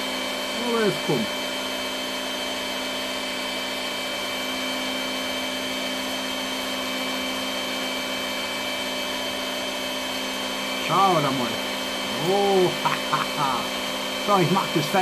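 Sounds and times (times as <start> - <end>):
meat grinder motor humming: 0.0 - 15.0.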